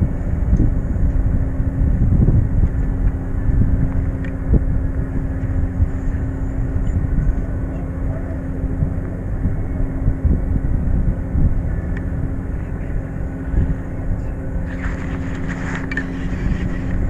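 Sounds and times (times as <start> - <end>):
boat machinery droning: 0.0 - 17.0
constant hum: 0.0 - 17.0.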